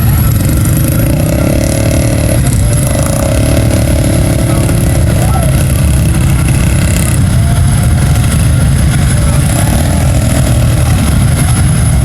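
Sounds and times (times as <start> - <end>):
truck engine running loud: 0.0 - 12.0.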